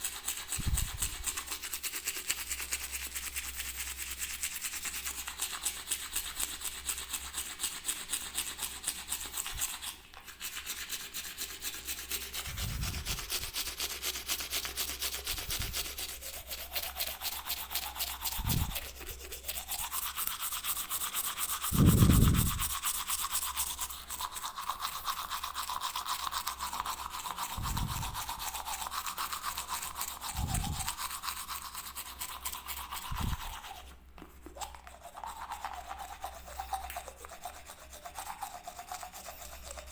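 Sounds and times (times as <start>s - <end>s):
toothbrush scrubbing: 0.0s - 39.9s.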